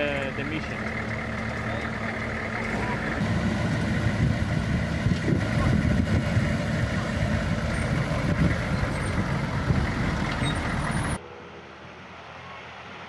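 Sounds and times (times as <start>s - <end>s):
diesel engines of vehicles driving past: 0.0s - 13.0s.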